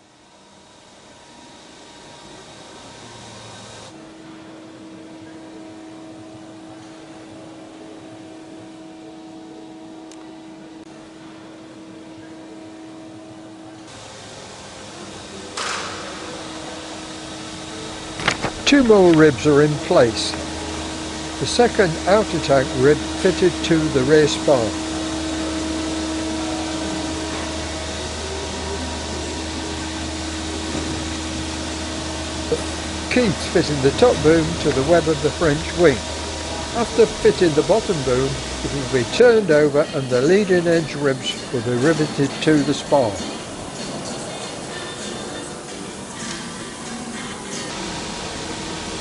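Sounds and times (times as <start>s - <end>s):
constant mid-pitched hum: 0.0s - 49.0s.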